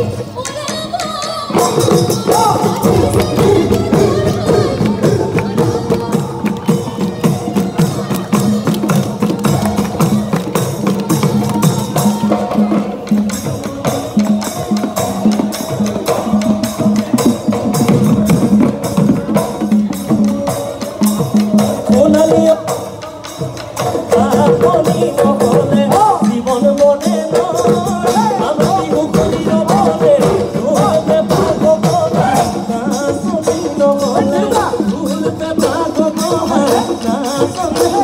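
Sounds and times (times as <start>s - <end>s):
fast dense percussion: 0.0s - 38.0s.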